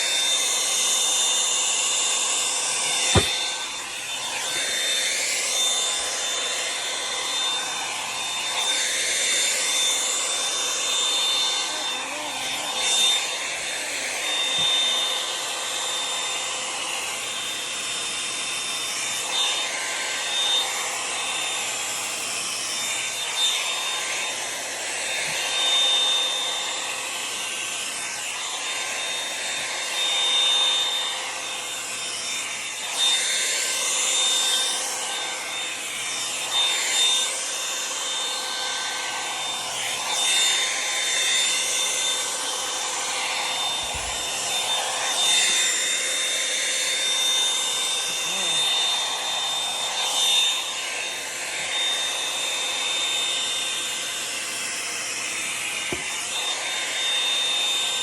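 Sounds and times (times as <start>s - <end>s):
hot-air brush dryer running: 0.0s - 58.0s.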